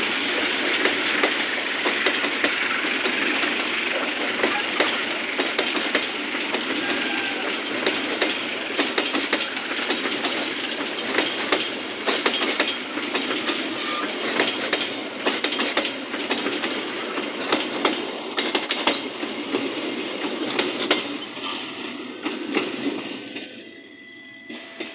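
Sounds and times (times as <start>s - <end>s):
wheels clattering over rail joints: 0.0s - 21.6s
wheels rumbling on rail: 0.0s - 24.9s.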